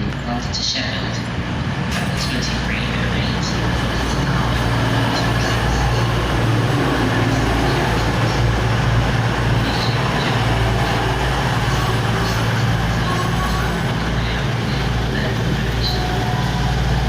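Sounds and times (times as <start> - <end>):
train diesel engines droning: 0.0 - 17.0.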